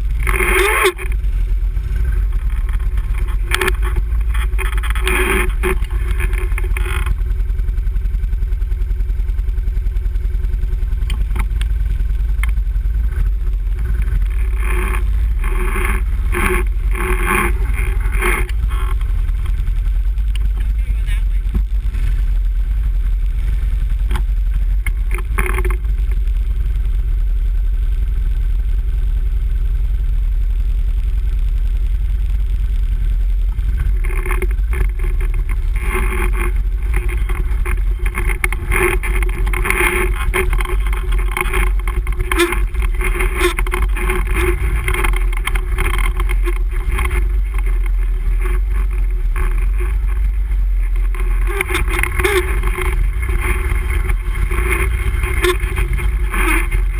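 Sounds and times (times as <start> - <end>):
quad engine running: 0.0 - 56.9.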